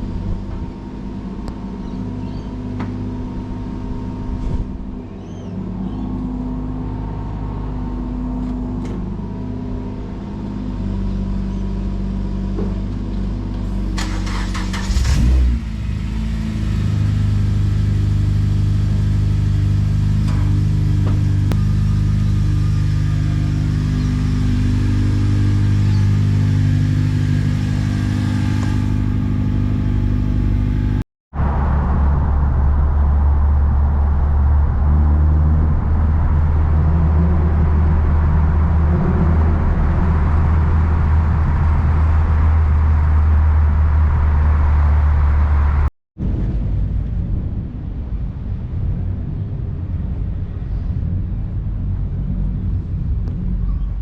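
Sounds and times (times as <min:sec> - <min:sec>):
car engines running: 0:00.0 - 0:54.0.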